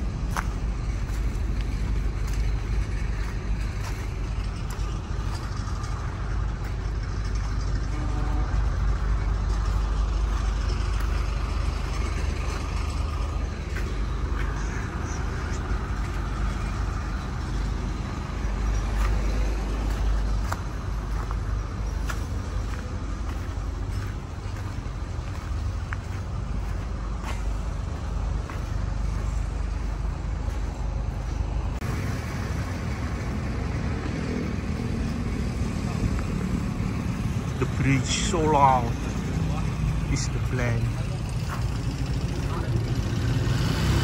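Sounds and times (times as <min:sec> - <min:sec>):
road vehicle rumble: 0:00.0 - 0:44.0.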